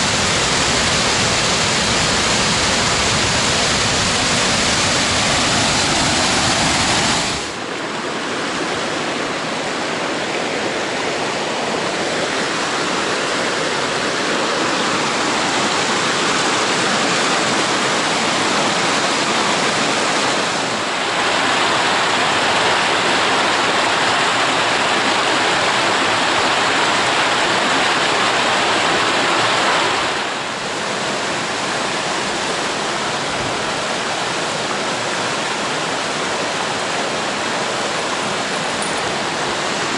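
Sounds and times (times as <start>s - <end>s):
creek cascading over rocks: 0.0s - 39.9s
large waterfall: 0.0s - 39.9s.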